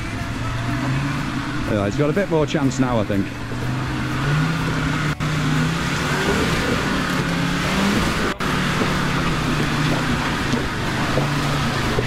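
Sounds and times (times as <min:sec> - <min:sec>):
diesel engine revving under load: 0:00.0 - 0:12.0.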